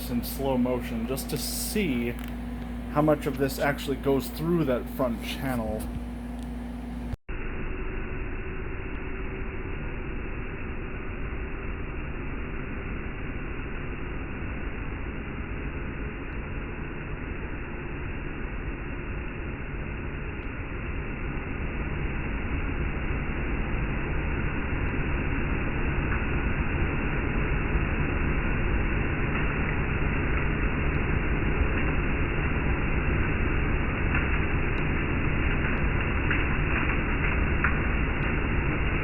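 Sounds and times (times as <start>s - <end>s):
slowed vacuum cleaner noise: 0.0s - 39.0s.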